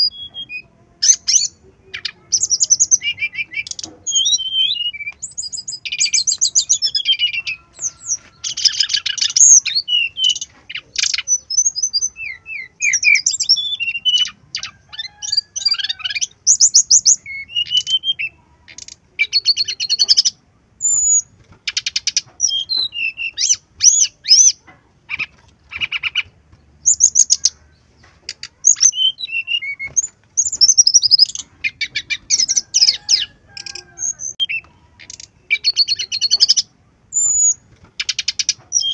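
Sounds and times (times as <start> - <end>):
bird singing trills and whistles: 0.0 - 27.6, 28.3 - 38.9.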